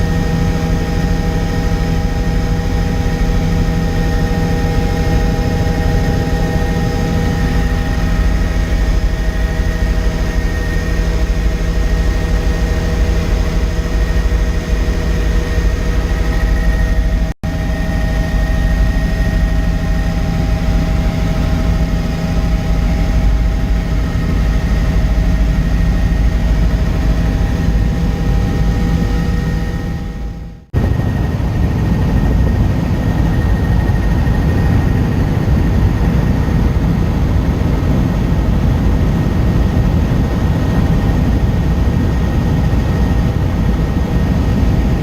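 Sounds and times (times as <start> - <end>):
helicopter engine and rotor: 0.0 - 45.0.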